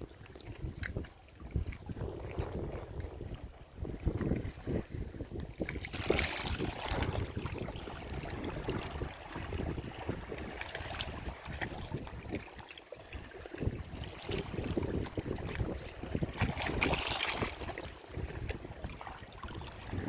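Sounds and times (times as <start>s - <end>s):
sea waves breaking: 0.0s - 20.0s
wind rumbling on microphone: 0.0s - 20.0s.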